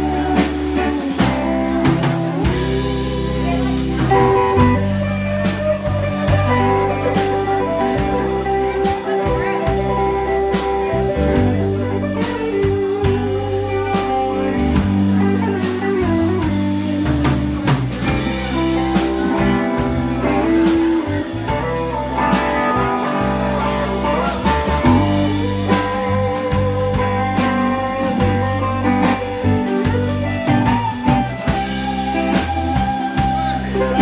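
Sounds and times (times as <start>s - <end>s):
bass guitar: 0.0s - 34.0s
drum kit beat: 0.0s - 34.0s
electric guitars: 0.0s - 34.0s.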